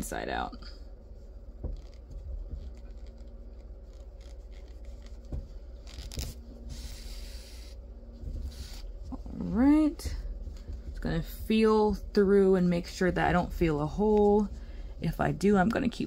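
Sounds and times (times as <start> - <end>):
yarn rustling and rubbing: 0.0 - 15.5
low hum: 0.0 - 16.0.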